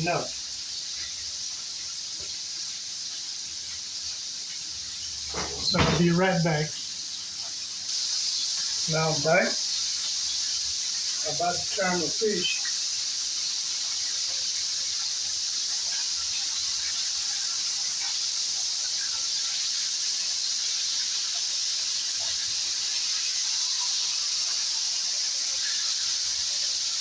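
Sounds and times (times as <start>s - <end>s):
fish sizzling in hot oil: 0.0s - 27.0s.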